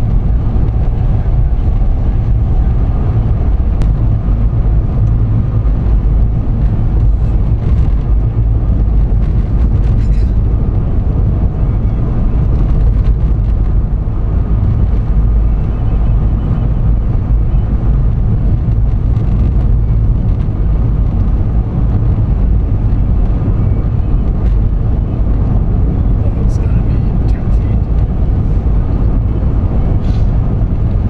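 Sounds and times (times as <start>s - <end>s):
vehicle road and engine rumble: 0.0s - 31.0s.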